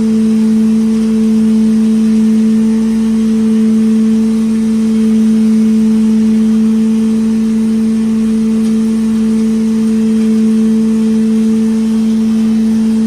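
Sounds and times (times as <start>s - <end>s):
wood chipper humming: 0.0s - 13.0s.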